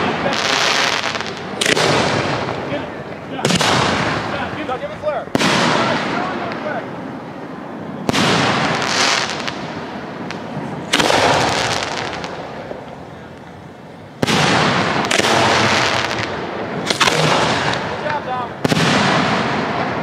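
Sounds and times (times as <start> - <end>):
fireworks bursting with bangs: 0.0 - 20.0
fireworks crackling: 0.0 - 20.0.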